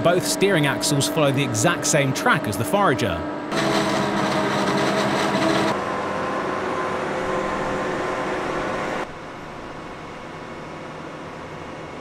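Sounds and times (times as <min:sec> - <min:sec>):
farm machinery engines droning: 0:00.0 - 0:12.0.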